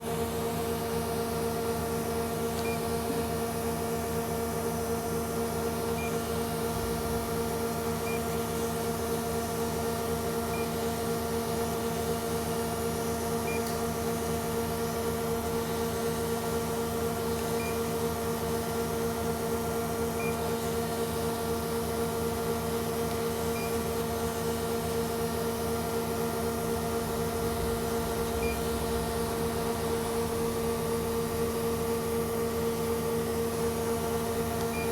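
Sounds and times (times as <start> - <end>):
mechanical press machine hum: 0.0 - 34.9.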